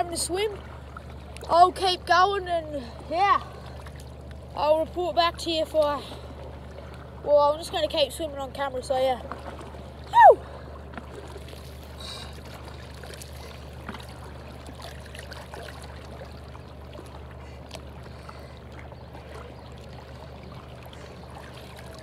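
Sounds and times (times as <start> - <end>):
sea water lapping around rocks: 0.0 - 22.0.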